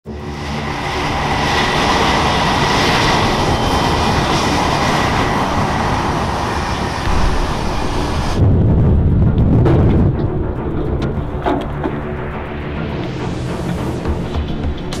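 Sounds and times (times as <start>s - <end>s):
jet engine roar with high whine: 0.1s - 15.0s.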